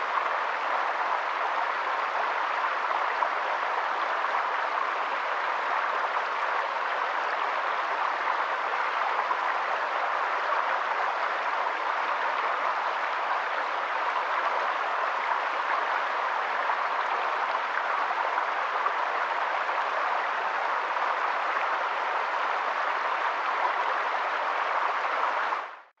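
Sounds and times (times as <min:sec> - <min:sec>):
water rushing: 0:00.0 - 0:25.9.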